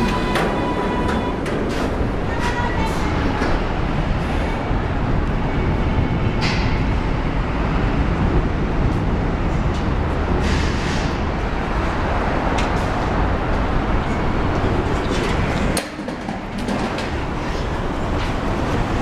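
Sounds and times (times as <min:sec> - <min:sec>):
train rumbling on bridge: 0:00.0 - 0:19.0.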